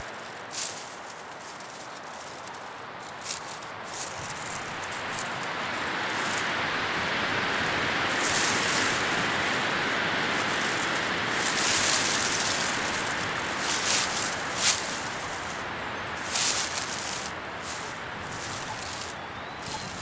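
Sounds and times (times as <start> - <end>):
leaves rustling: 0.0 - 20.0.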